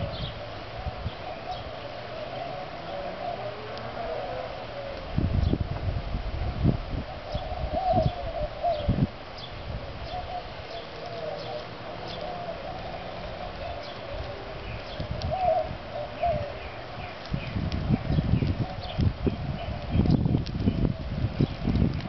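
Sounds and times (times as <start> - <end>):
small birds chirping: 0.0 - 5.7, 7.0 - 22.0
dove cooing: 0.0 - 5.8, 6.8 - 22.0.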